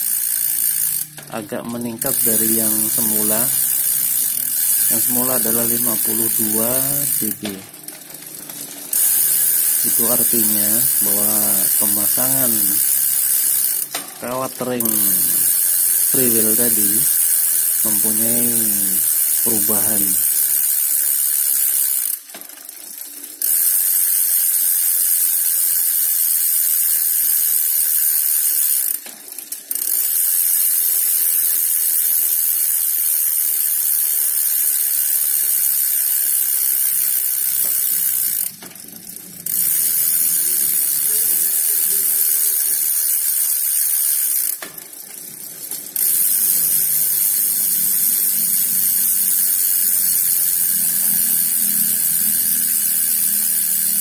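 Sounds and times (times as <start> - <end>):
bicycle freewheel ratcheting: 0.0 - 54.0.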